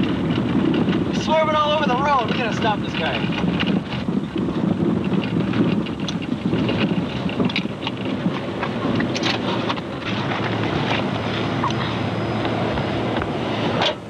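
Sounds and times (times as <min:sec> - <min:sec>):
scattered crackles: 0:00.0 - 0:13.3
car road and wind noise: 0:00.0 - 0:14.0.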